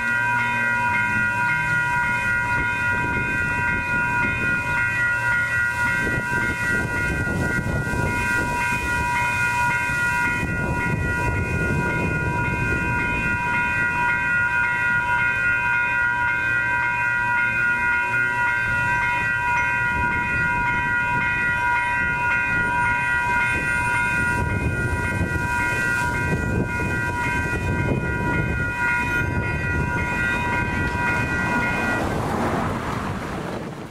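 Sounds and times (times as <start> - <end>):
railroad crossing bells ringing: 0.0 - 33.9.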